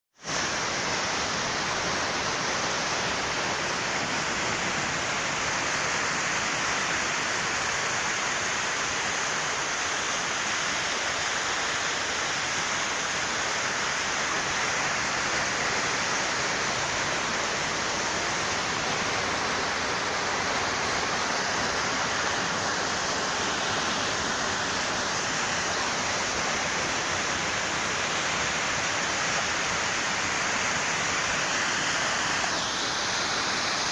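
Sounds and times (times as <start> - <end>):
stream rushing over rocks: 0.2 - 33.9.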